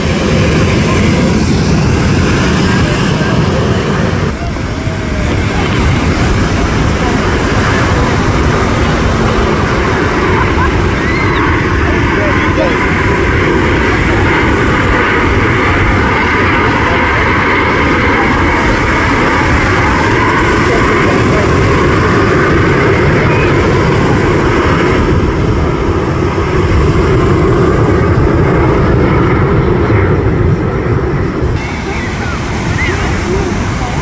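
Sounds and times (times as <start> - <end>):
jet planes flying past: 0.0 - 34.0.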